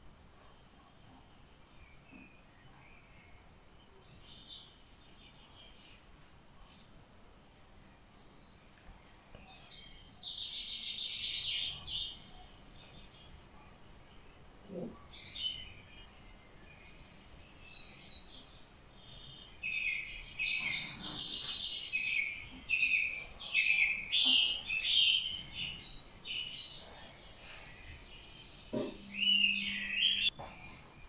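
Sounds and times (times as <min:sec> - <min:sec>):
small birds chirping: 0:00.2 - 0:31.0.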